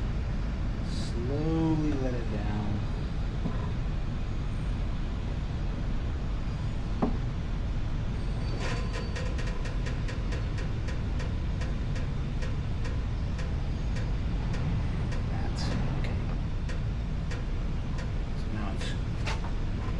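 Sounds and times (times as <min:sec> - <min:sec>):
steady low rumble: 0:00.0 - 0:08.5, 0:09.2 - 0:19.9.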